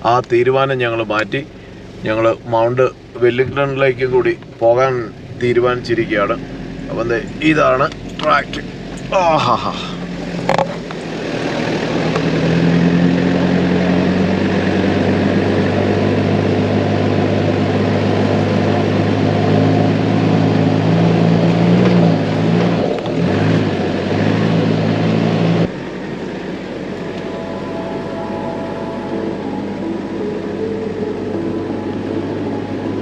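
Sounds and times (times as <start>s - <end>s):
off-road vehicle engine: 0.0s - 33.0s.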